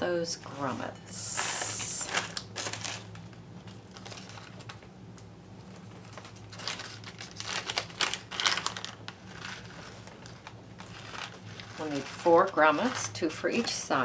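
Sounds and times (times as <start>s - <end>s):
plastic bag crinkling: 1.2s - 4.9s, 5.6s - 13.9s.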